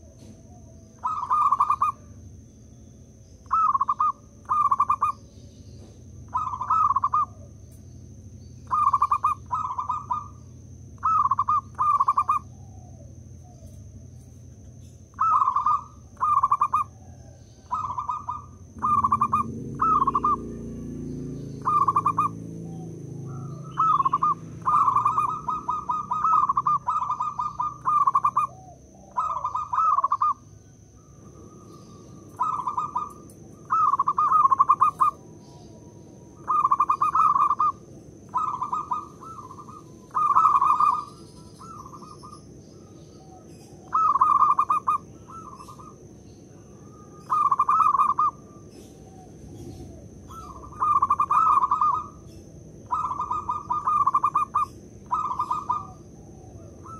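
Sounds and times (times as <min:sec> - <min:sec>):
dove cooing: 0:00.0 - 0:02.2, 0:03.4 - 0:05.4, 0:06.1 - 0:07.7, 0:08.6 - 0:56.9.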